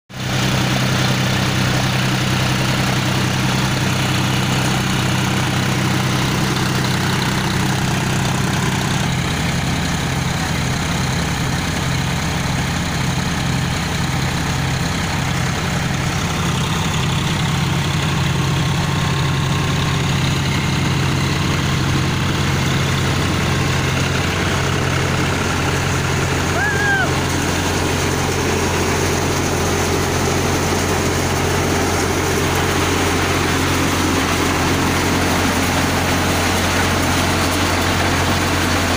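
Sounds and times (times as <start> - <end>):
tractor diesel engine running: 0.1 - 38.9
thresher machinery whirring and rattling: 0.2 - 38.9.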